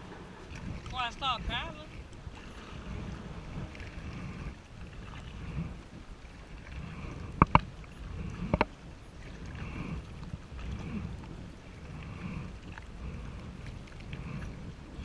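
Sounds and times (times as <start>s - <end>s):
low rumble: 0.0s - 15.0s
paddle swishing in water: 0.0s - 15.0s.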